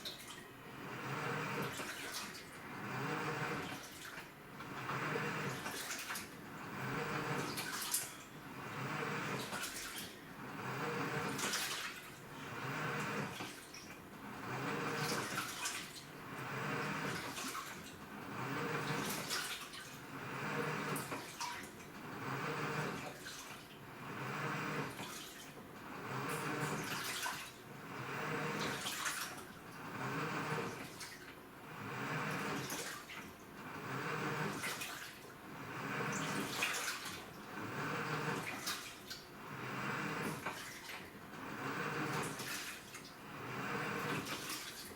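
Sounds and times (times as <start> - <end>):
washing machine water sloshing: 0.0 - 0.6, 1.2 - 2.8, 3.4 - 44.9.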